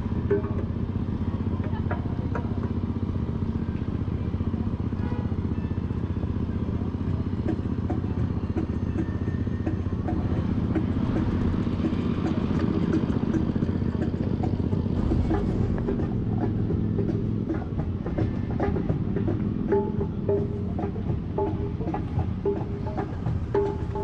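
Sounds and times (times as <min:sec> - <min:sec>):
wind and tyres rumbling: 0:00.0 - 0:24.0.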